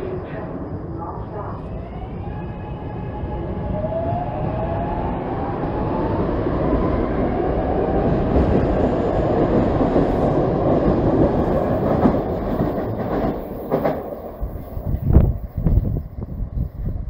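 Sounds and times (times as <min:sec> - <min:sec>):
train rumbling and clattering on rails: 0:00.0 - 0:17.0.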